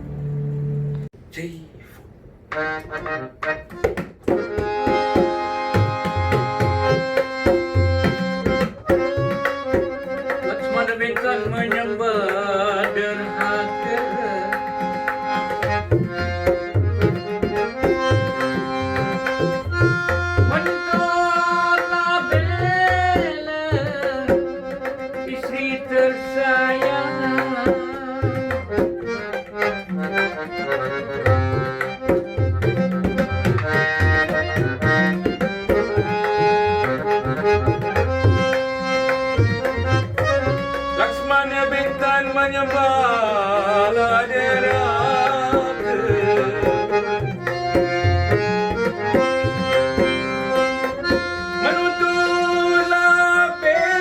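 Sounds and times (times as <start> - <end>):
reed keyboard melody: 2.5 - 54.0.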